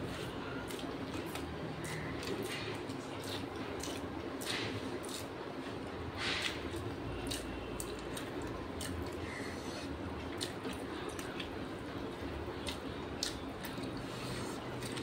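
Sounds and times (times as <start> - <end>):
hands squishing rice: 0.0 - 15.0
eating clicks and smacks: 0.7 - 15.0.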